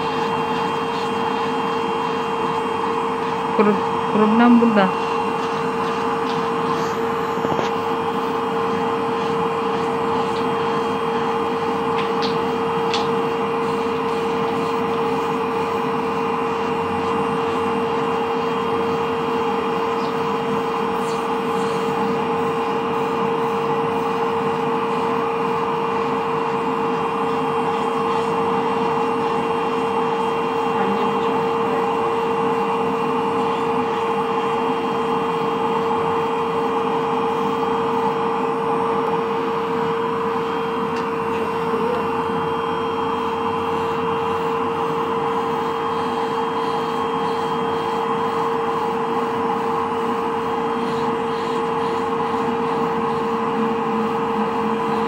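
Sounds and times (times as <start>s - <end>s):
drill motor hum: 0.0s - 55.0s.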